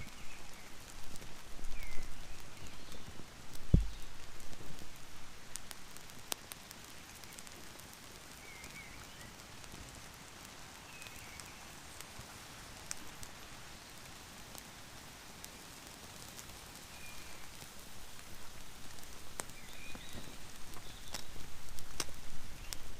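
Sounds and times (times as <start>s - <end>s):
steady rain in woodland: 0.0s - 22.9s.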